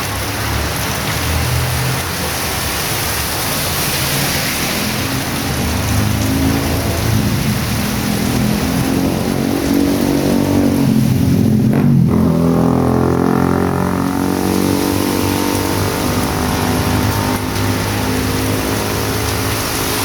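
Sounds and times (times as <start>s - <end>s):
heavy rain hissing: 0.0s - 20.0s
vehicle driving past on wet street: 0.0s - 20.0s.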